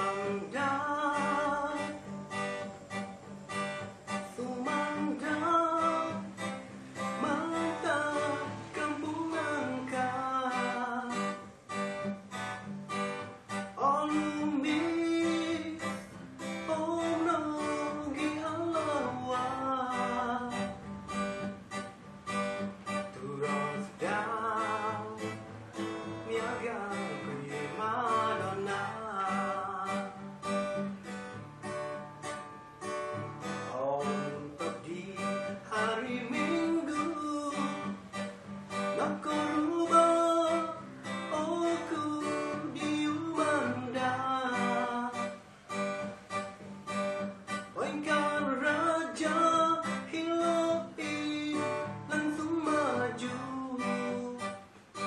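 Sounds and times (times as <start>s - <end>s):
man singing: 0.0s - 11.8s, 13.4s - 21.2s, 22.8s - 30.6s, 33.1s - 45.4s, 47.4s - 55.0s
acoustic guitar strumming: 0.0s - 55.0s.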